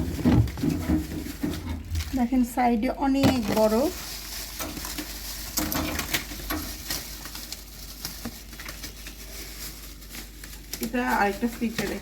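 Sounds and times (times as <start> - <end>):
frozen food packages knocking: 0.0 - 2.4, 3.0 - 12.0.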